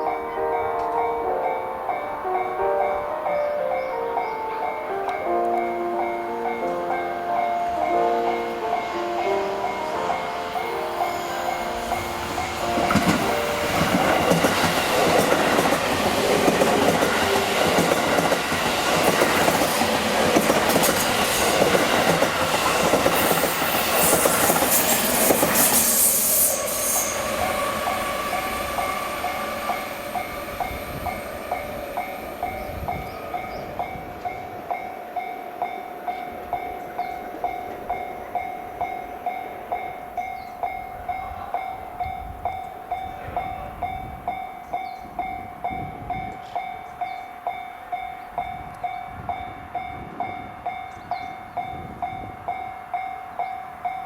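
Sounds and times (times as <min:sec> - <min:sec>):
crossing warning bell ringing: 0:00.0 - 0:54.0
train wheels rushing on rails: 0:04.2 - 0:54.0.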